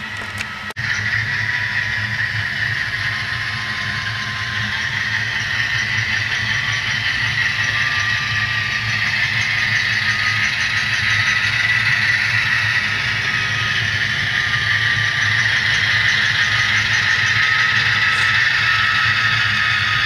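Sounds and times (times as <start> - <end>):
diesel engine sound from small speaker: 0.0 - 20.0
model train rattling on track: 0.0 - 20.0.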